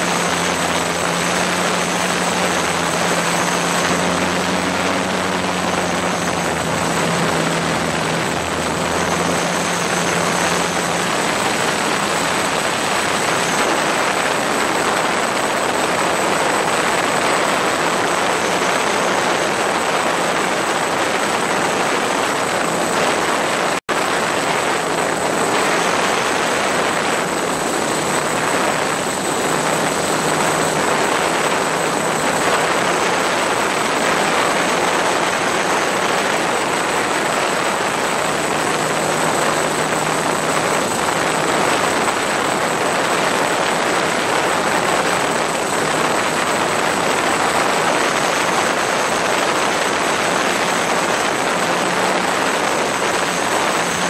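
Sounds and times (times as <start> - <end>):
drone propellers whirring: 0.0 - 54.0.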